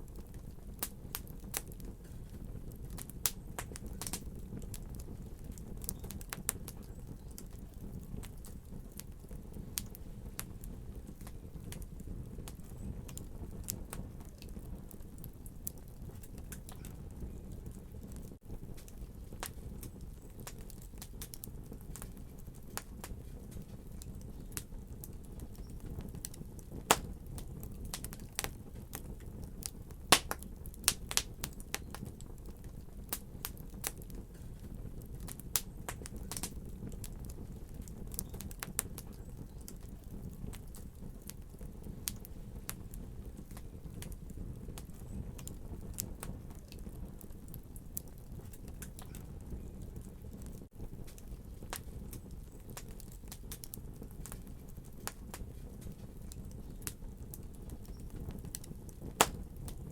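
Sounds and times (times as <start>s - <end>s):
fire burning rumble: 0.0s - 59.9s
fire snaps and pops: 0.0s - 59.9s.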